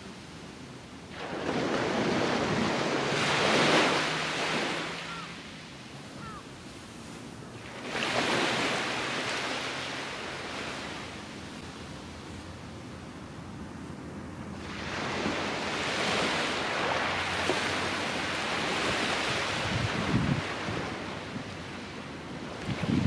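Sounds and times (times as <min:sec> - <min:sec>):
ocean waves crashing on beach: 0:00.0 - 0:23.0.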